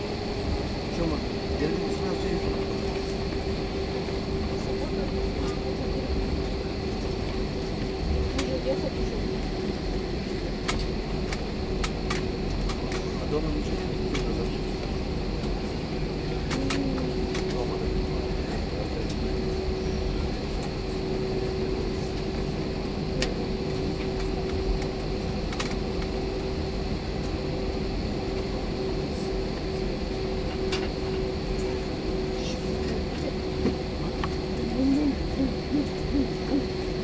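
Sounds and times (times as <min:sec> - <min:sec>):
jet engine cabin hum: 0:00.0 - 0:37.0.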